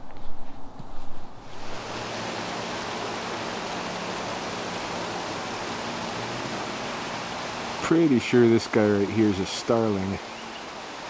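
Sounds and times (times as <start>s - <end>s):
river water flowing: 1.4s - 11.0s.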